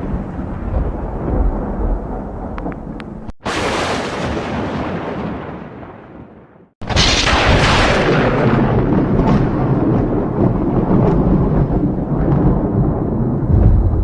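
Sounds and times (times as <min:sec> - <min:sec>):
thunder crack and rumble: 0:00.0 - 0:14.0.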